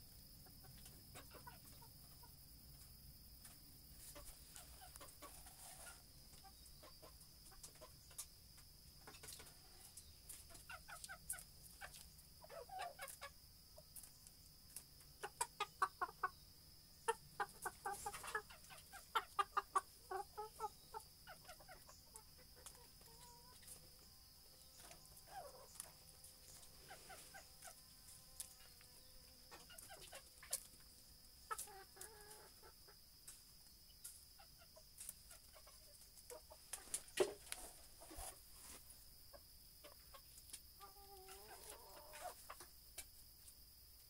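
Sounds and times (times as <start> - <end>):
chicken clucking: 0.1 - 44.0.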